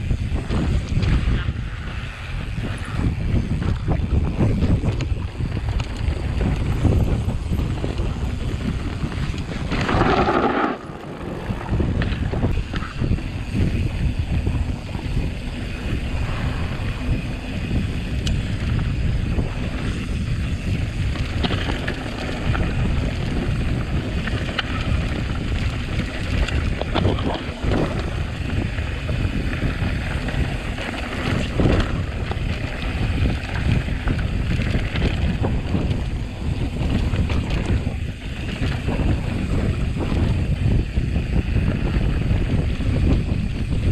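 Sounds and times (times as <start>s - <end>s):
wind buffeting microphone: 0.0s - 43.9s
bike knocks and rattles: 2.5s - 43.9s.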